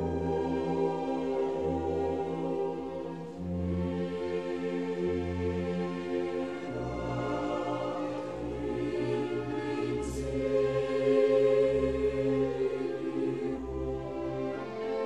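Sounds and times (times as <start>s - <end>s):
slow orchestral music with choir: 0.0s - 15.0s.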